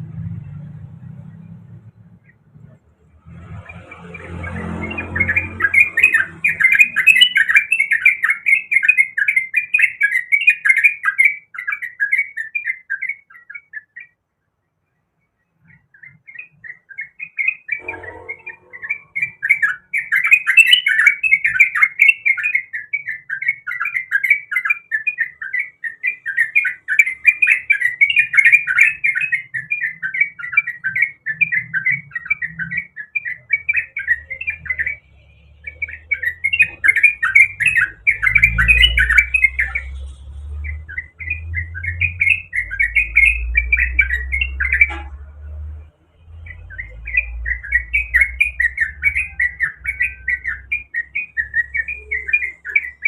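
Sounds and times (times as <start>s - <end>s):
bird chattering song: 0.4s - 14.2s, 14.9s - 53.0s.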